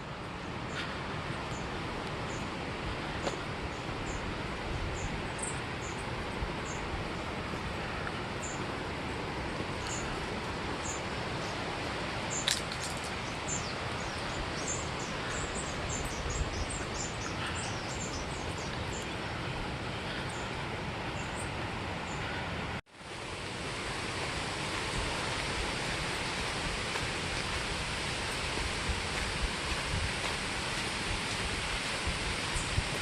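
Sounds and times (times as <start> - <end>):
steady rushing noise: 0.0 - 33.0.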